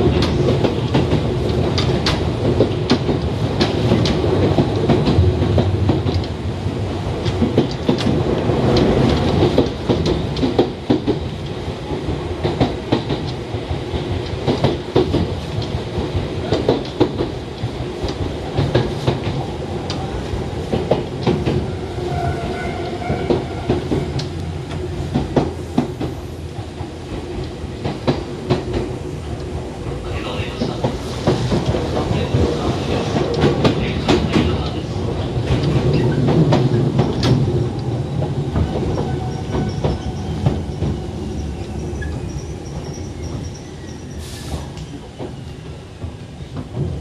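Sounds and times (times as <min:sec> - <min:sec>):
train running rumble: 0:00.0 - 0:47.0.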